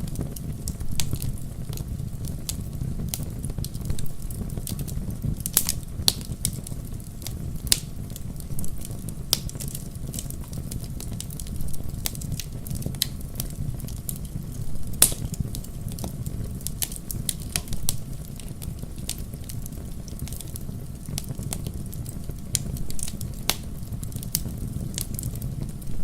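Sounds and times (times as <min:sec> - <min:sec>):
fire crackling and popping: 0:00.0 - 0:26.0
wood fire burning: 0:00.0 - 0:26.0.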